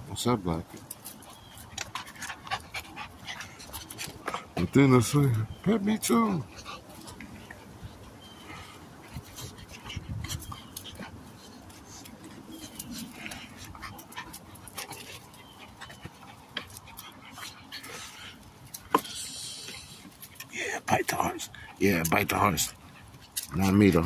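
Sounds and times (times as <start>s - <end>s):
soft dog noises: 0.2s - 24.0s
puppies playing: 0.5s - 24.0s.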